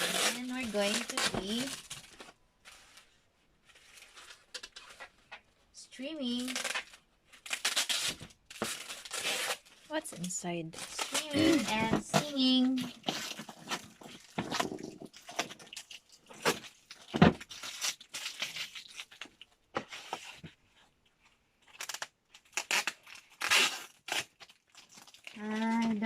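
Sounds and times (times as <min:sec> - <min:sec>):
packaging tearing and rustling: 0:00.0 - 0:05.4, 0:06.2 - 0:20.4, 0:21.6 - 0:26.0.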